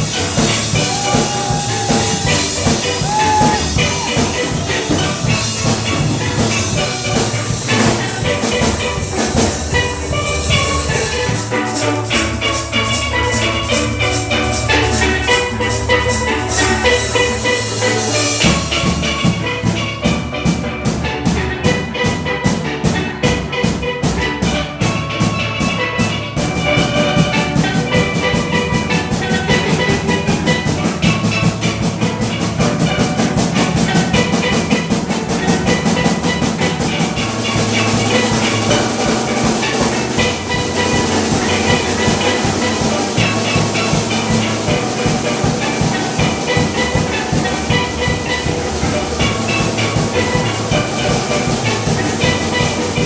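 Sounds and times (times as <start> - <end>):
steady drum beat: 0.0 - 53.0
steel drum band playing: 0.0 - 53.0.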